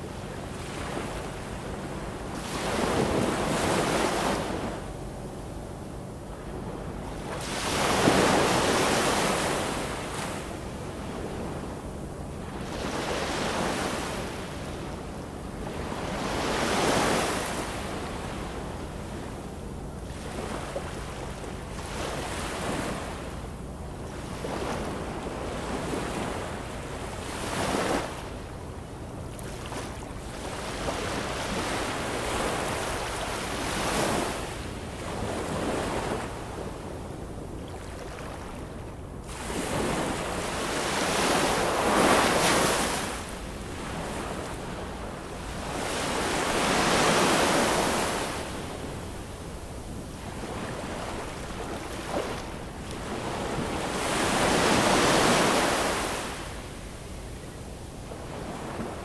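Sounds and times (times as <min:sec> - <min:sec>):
ocean waves washing ashore: 0:00.0 - 0:59.0.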